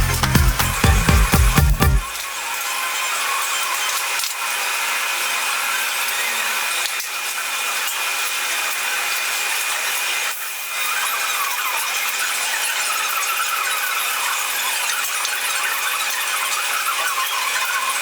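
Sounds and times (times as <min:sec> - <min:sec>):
power tool whining cutting metal: 0:02.0 - 0:18.0.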